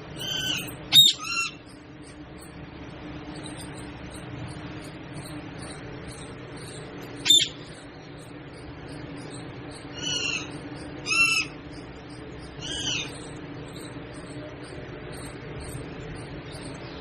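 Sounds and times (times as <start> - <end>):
parrot squawking: 0.1 - 1.8, 3.3 - 7.9, 8.9 - 16.8.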